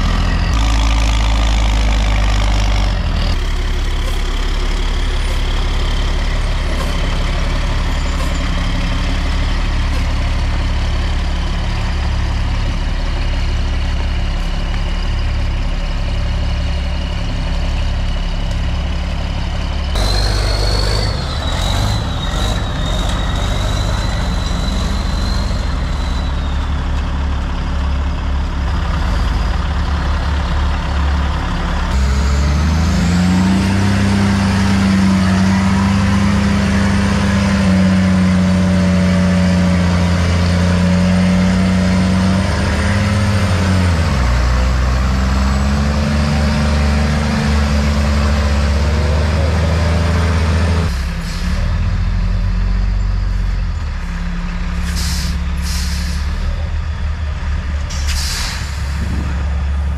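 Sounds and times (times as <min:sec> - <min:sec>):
heavy truck engine running: 0:00.0 - 0:59.9.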